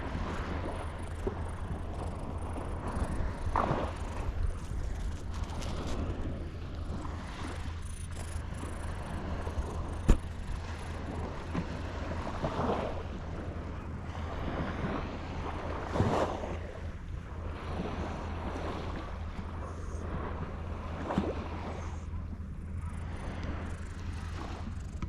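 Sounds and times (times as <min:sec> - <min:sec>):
waves washing against breakwater: 0:00.0 - 0:22.0.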